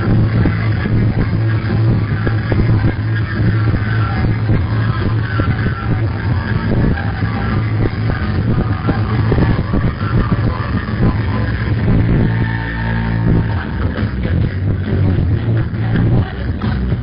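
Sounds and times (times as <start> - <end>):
loud dance music with heavy bass: 0.0 - 17.0.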